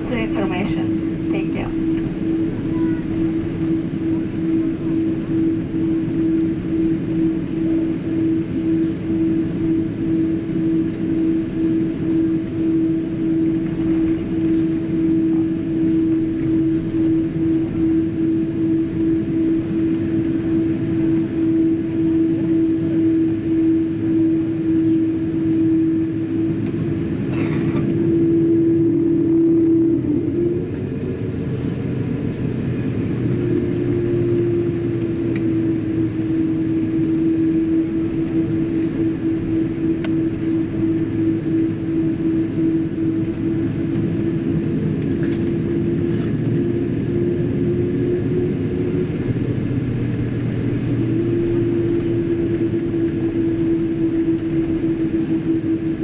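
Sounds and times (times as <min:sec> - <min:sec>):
aircraft cabin drone: 0:00.0 - 0:56.0
jet engines idling: 0:00.0 - 0:56.0.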